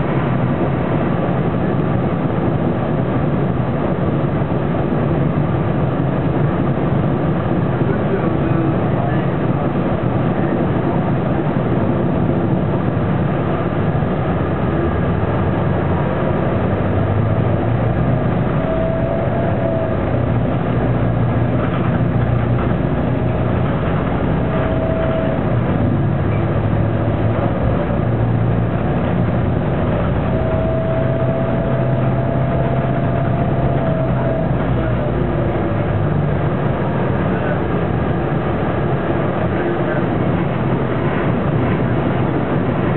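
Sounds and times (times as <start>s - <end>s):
bus diesel engine running: 0.0s - 42.9s
faint whine: 0.0s - 42.9s.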